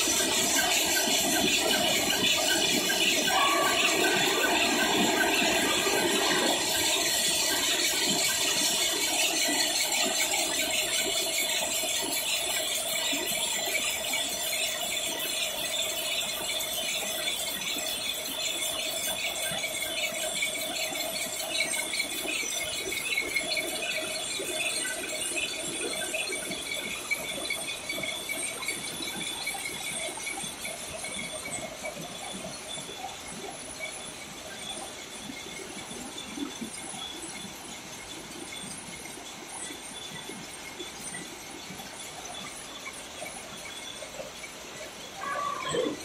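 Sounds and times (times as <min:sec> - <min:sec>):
looms mechanical clatter: 0:00.0 - 0:45.1
constant high ring: 0:00.0 - 0:46.0.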